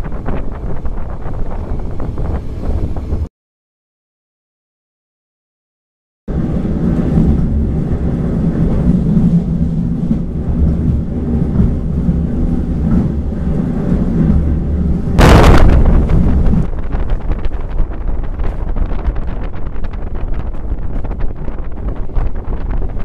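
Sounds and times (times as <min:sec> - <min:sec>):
railcar engine rumble: 0:00.0 - 0:03.3, 0:06.3 - 0:23.0
wind hitting microphone: 0:00.0 - 0:03.3, 0:06.3 - 0:23.0.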